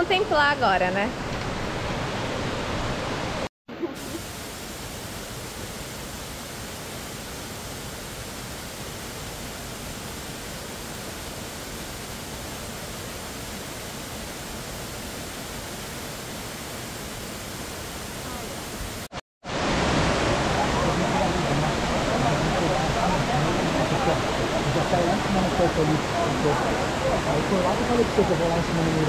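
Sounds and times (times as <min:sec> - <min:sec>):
waterfall rushing: 0:01.6 - 0:29.0.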